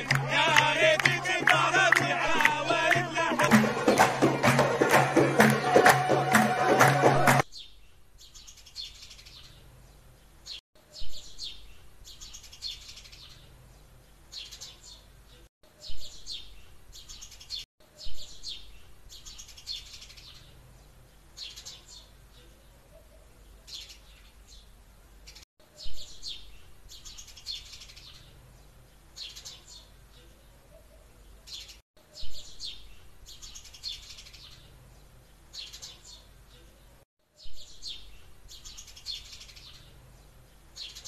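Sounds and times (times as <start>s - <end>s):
small birds chirping: 7.5s - 41.0s.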